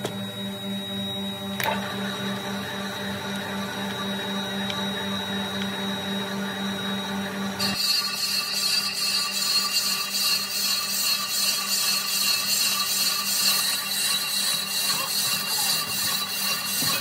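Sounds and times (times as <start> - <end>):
metal lathe humming: 0.0 - 17.0.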